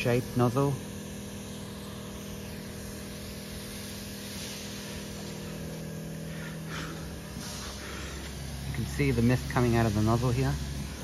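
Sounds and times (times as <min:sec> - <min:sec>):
pump humming: 0:00.0 - 0:11.0
spray gun hissing: 0:00.0 - 0:11.0.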